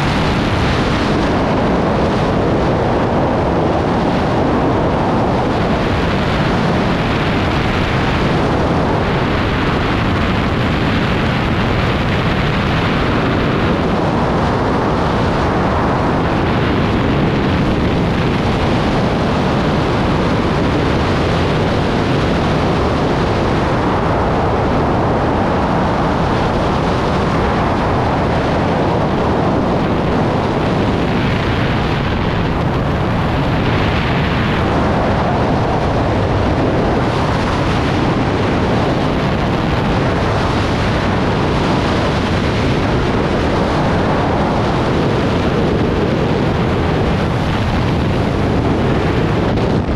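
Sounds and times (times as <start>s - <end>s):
wind blasting over microphone: 0.0s - 49.9s.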